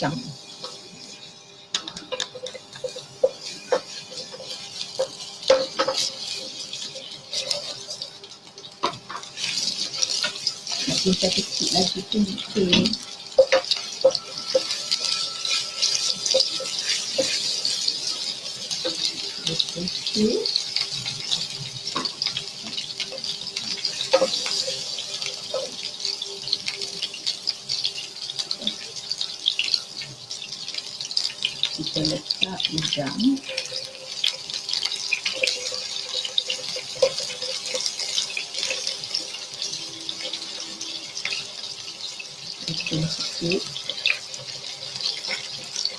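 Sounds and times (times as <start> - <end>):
garlic sizzling in oil: 0.0 - 45.9.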